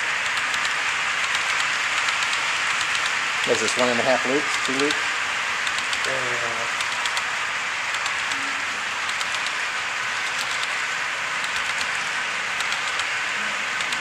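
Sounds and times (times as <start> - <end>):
model train wheels on rail: 0.0 - 14.0.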